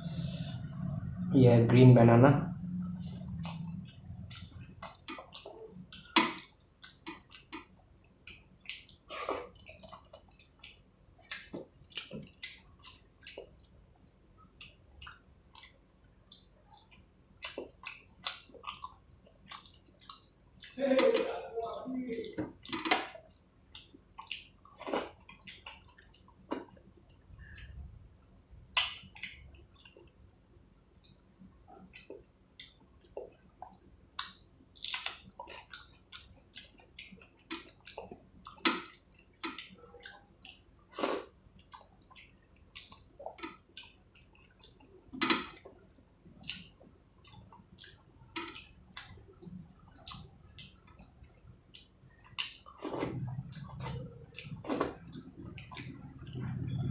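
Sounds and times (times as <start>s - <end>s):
wet chewing and mouth smacks: 2.8s - 20.8s, 21.6s - 28.1s, 28.7s - 30.2s, 30.8s - 56.9s.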